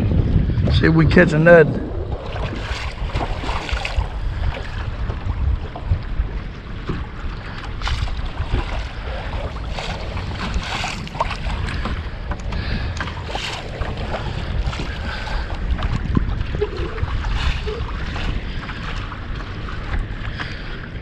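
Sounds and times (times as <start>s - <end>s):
waves lapping against boat hull: 0.0s - 21.0s
wind buffeting microphone: 0.0s - 21.0s.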